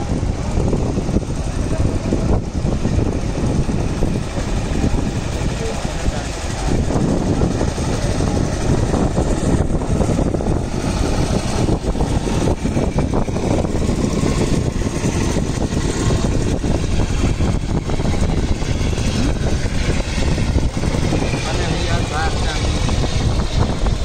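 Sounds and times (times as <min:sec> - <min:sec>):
train running noise: 0:00.0 - 0:24.0.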